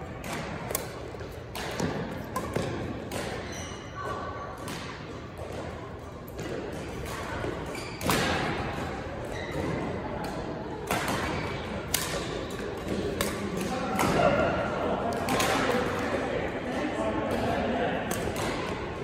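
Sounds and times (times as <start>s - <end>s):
rackets hitting shuttlecock: 0.0s - 16.2s, 17.2s - 19.0s.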